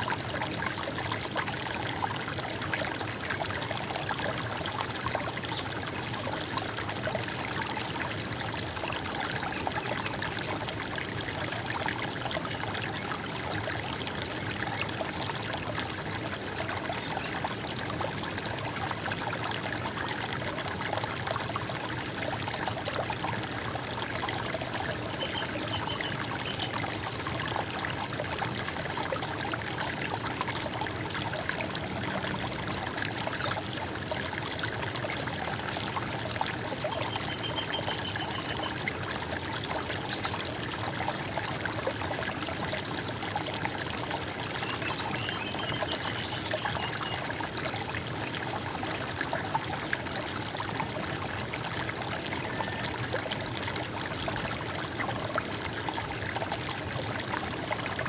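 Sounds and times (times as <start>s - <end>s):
water trickling and gurgling: 0.0s - 58.0s.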